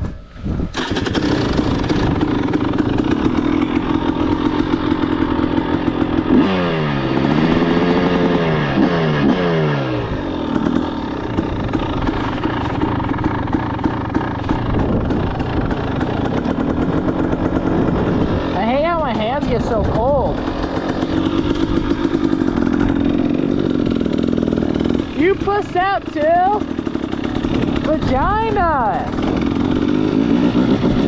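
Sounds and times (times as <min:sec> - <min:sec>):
two-stroke engine revving: 0:00.7 - 0:31.0.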